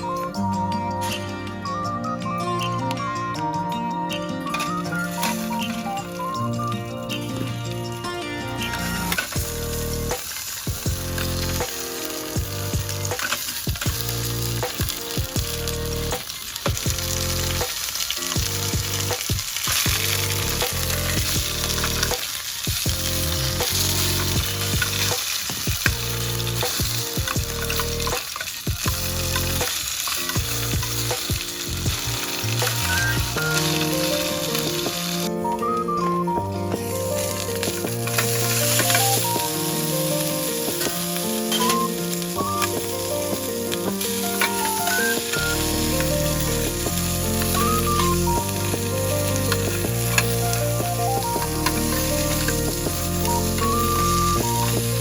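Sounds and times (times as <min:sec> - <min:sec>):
light background music: 0:00.0 - 0:55.0
food sizzling in hot oil: 0:03.3 - 0:55.0.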